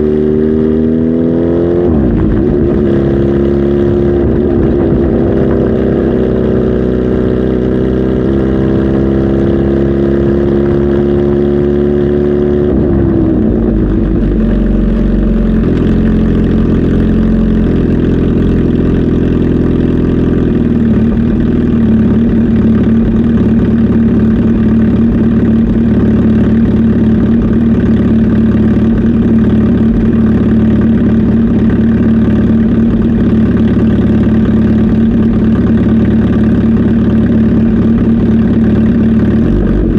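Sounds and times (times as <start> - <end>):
motorcycle engine idling: 2.1 - 9.3, 12.8 - 39.9.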